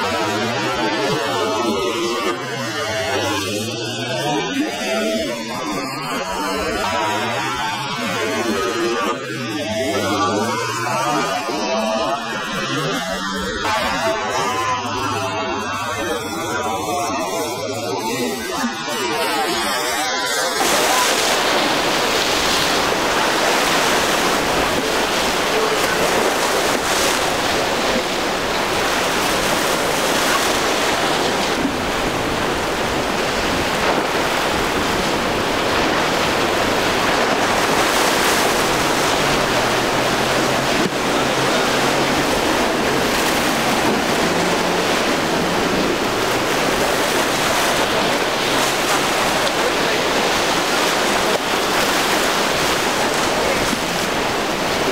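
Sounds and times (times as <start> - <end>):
outboard motor hum: 0.0 - 54.9
rough surf and breaking waves: 0.0 - 54.9.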